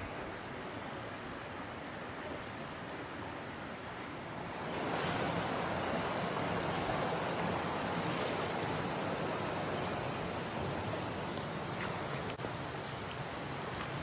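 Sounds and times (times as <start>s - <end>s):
river water rushing over rocks: 0.4s - 14.0s.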